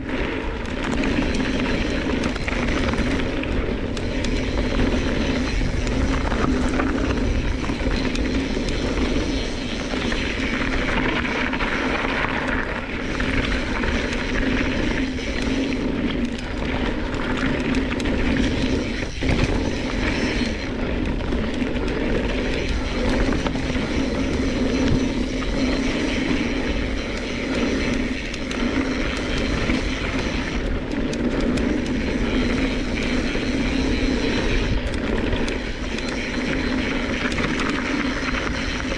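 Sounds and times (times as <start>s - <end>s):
stones and bike rattling: 0.0s - 38.9s
tyres rumbling on dirt trail: 0.0s - 38.9s.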